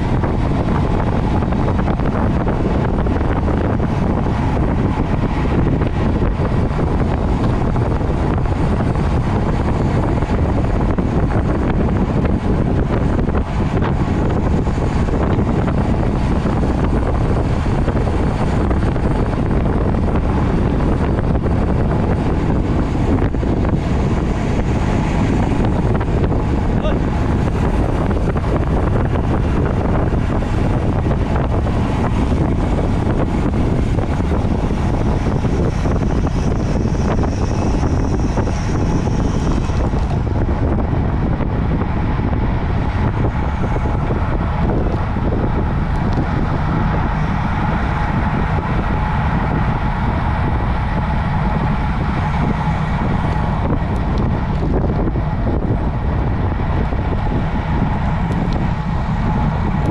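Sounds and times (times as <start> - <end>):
heavy low rumble: 0.0 - 59.9
wind rushing on microphone: 0.0 - 59.9.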